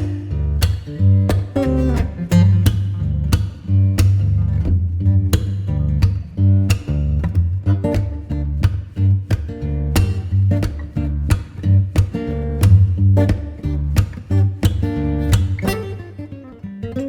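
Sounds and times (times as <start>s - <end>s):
guitar-led background music: 0.0s - 17.0s.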